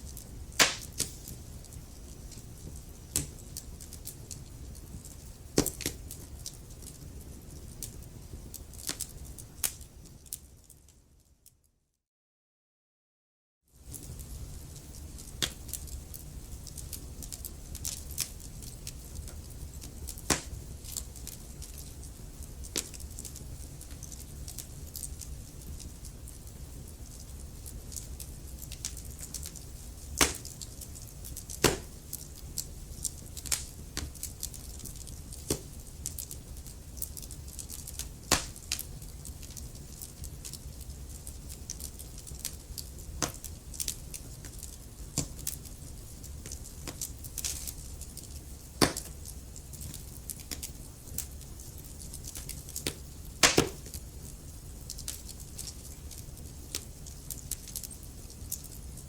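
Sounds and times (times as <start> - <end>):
wood fire crackling: 0.0 - 11.6, 13.8 - 59.0.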